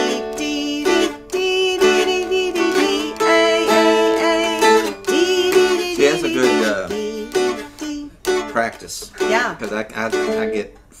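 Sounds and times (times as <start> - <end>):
dulcimers strummed: 0.0 - 10.9.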